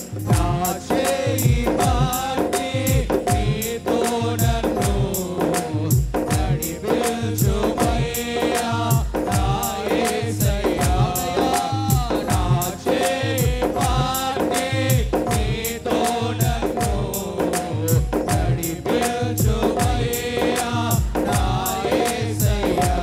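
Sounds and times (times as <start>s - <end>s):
man singing into a microphone: 0.0s - 23.0s
music with drum beat and bass: 0.0s - 23.0s.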